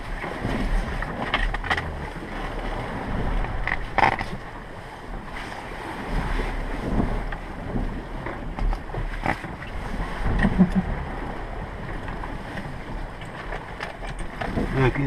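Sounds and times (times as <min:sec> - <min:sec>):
sea noise: 0:00.0 - 0:15.0
wind rumbling on microphone: 0:00.0 - 0:15.0.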